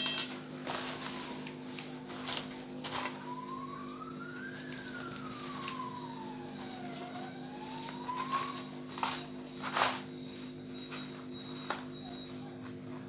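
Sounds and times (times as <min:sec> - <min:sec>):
siren-like bell tone: 0:00.0 - 0:12.6.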